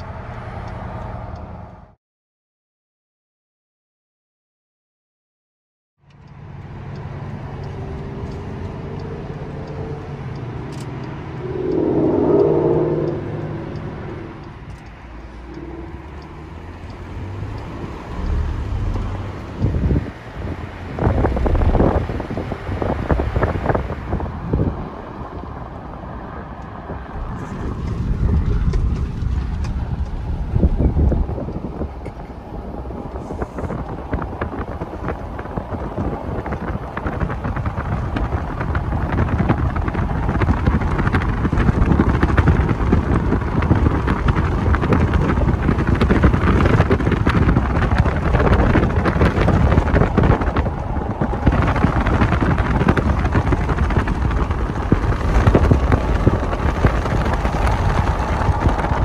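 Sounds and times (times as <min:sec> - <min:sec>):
wind buffeting microphone: 0:07.7 - 0:59.0.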